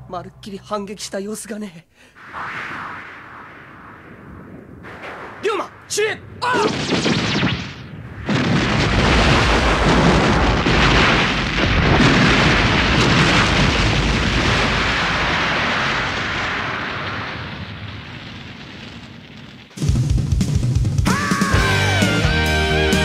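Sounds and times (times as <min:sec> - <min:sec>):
explosion blast: 0:02.1 - 0:21.8
rumble of fire: 0:02.1 - 0:22.2.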